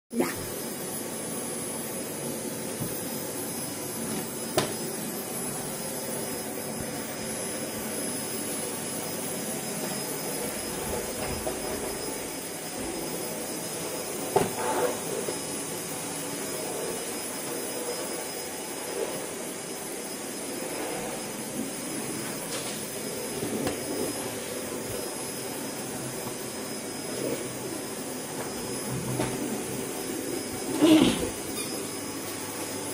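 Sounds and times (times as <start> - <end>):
vacuum cleaner running: 0.2 - 32.9.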